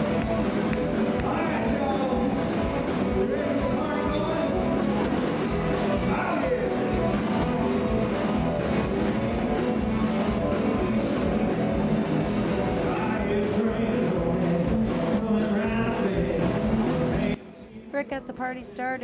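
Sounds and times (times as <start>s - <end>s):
country rock band music: 0.0s - 17.4s
guitar: 0.0s - 19.0s.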